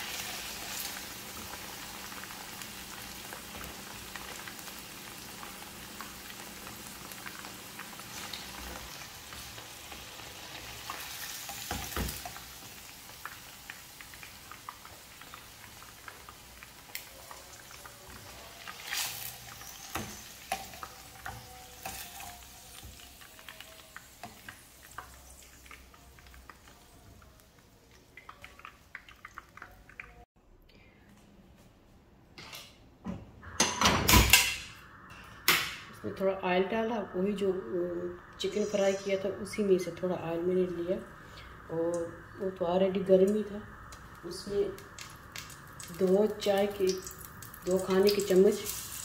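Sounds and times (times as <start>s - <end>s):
chicken frying in hot oil: 0.0s - 30.3s, 38.4s - 49.0s.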